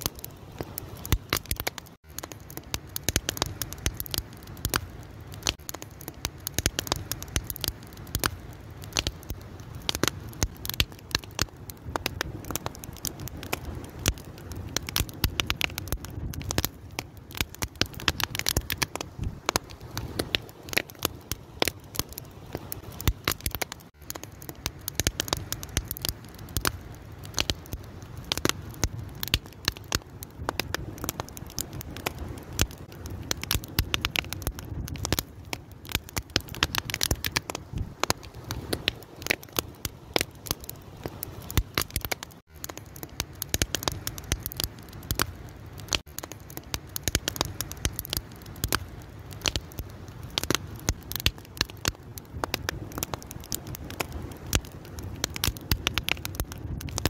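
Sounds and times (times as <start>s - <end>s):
open fire crackling: 0.0s - 57.0s.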